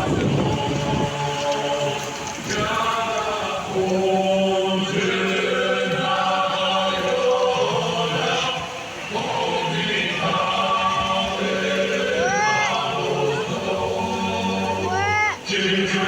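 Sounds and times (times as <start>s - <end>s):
choir-like singing: 0.0s - 16.0s.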